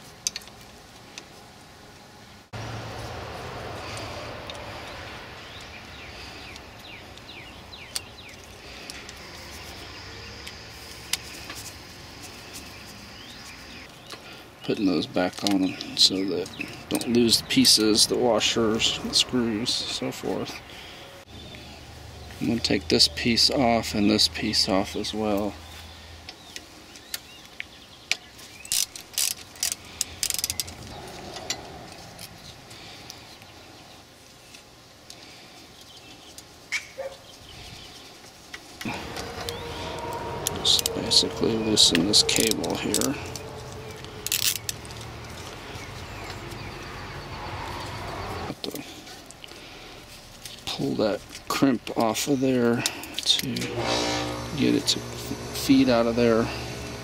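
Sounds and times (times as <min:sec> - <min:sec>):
outdoor background noise: 0:00.0 - 0:57.0
birds chirping: 0:03.8 - 0:34.6, 0:35.2 - 0:57.0.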